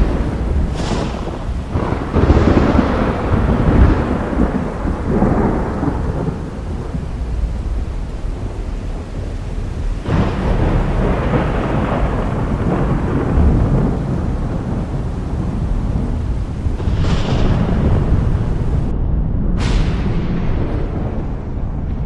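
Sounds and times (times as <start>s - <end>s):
thunder clap: 0.0s - 22.0s
thunder rumbling: 0.0s - 22.0s.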